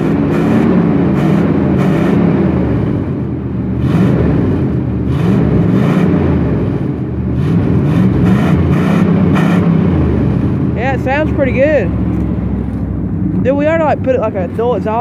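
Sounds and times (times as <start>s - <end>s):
pickup engine running: 0.0s - 15.0s.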